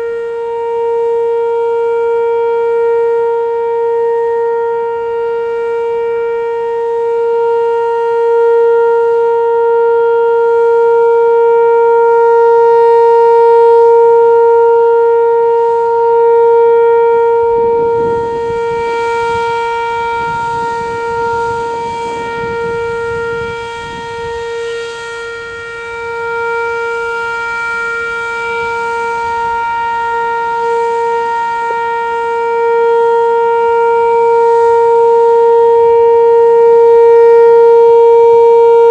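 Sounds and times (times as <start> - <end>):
outdoor warning siren steady tone: 0.0 - 38.9.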